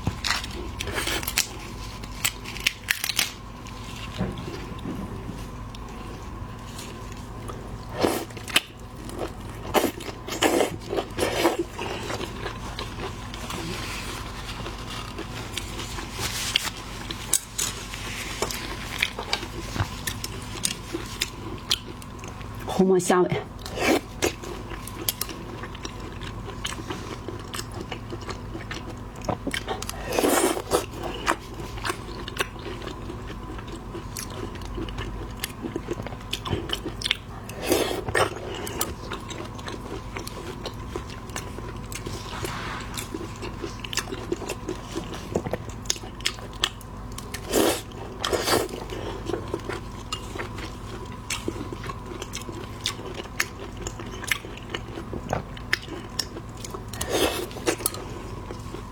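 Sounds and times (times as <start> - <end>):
chewing and biting shrimp: 0.0 - 4.8, 5.5 - 22.7, 23.5 - 58.9.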